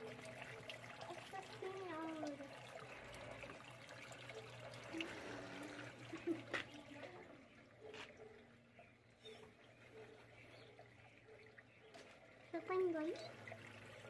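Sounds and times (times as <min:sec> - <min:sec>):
water pouring into barrel: 0:00.0 - 0:14.0.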